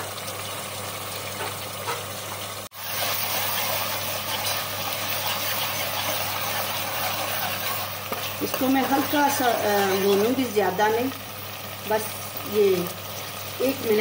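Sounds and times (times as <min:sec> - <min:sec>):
paste sizzling in hot oil: 0:02.7 - 0:14.0.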